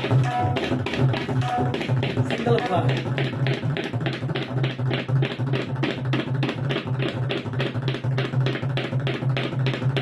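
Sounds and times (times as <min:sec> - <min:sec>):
tabla drumming: 0:00.0 - 0:10.0.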